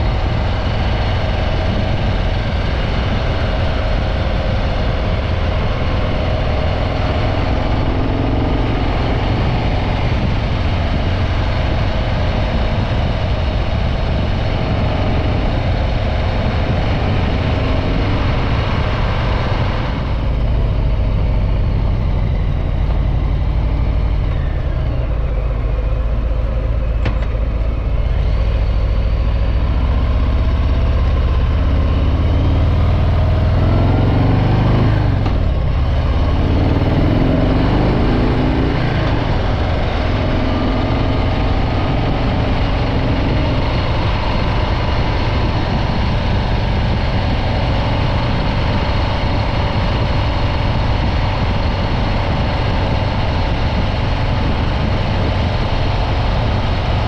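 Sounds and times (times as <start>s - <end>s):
motorcycle engine running: 0.0s - 57.0s
wind and road hiss: 0.0s - 57.0s.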